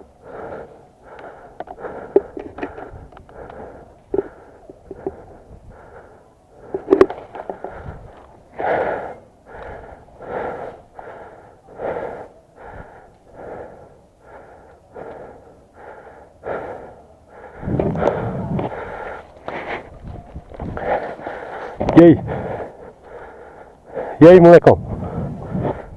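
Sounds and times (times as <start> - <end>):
person breathing hard and wheezing: 0.0 - 24.2, 24.8 - 25.9.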